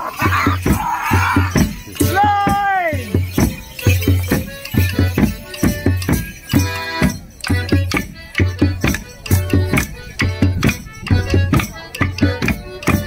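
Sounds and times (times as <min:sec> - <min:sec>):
drum beating: 0:00.0 - 0:13.0
folk tune: 0:00.0 - 0:13.0.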